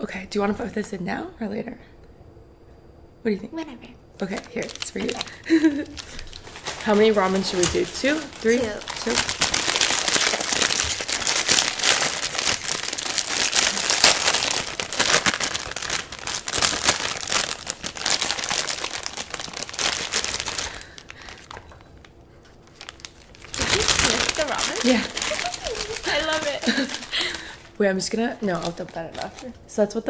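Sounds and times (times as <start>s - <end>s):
plastic packets crinkling: 4.2s - 29.6s.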